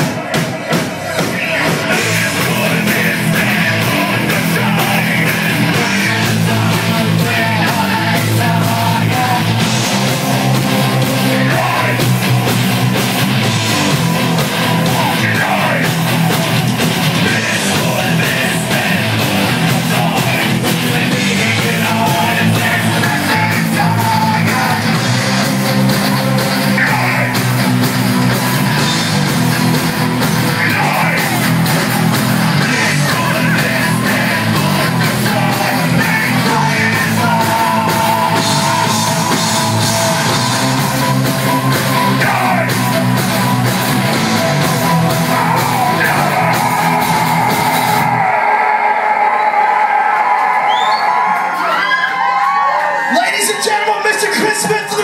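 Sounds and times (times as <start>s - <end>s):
distorted guitars: 0.0s - 55.0s
yelled vocals: 0.0s - 55.0s.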